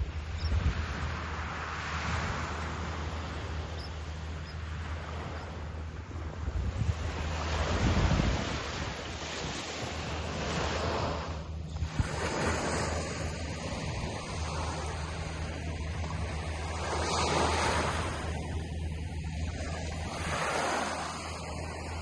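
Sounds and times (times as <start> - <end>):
ocean surf washing onto beach: 0.7 - 3.6, 4.6 - 22.0.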